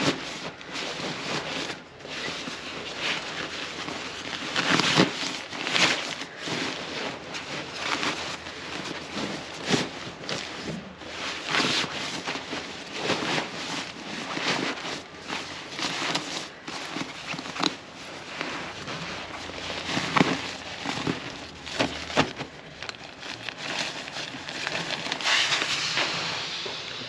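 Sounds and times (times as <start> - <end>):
nylon fabric rustling: 0.0 - 26.3.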